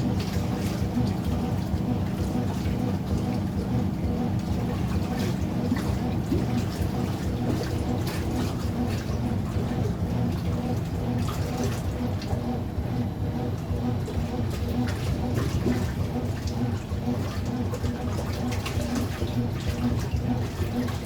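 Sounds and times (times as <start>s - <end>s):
washing machine motor hum: 0.0s - 21.0s
water sloshing in drum: 0.0s - 21.0s.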